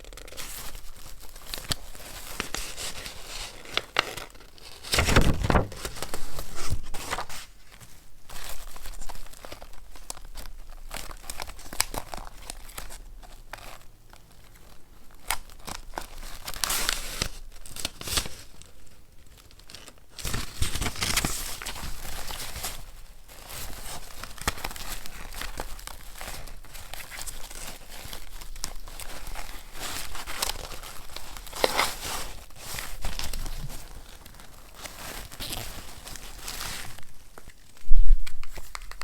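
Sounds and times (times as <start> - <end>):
paper crinkling and tearing: 0.0 - 39.0.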